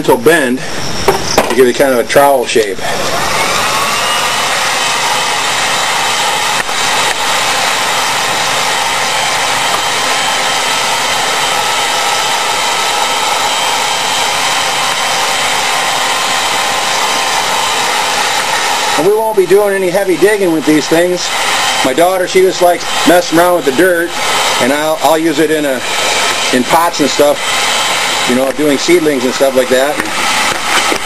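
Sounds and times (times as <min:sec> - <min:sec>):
heat gun blowing air: 0:00.0 - 0:31.0.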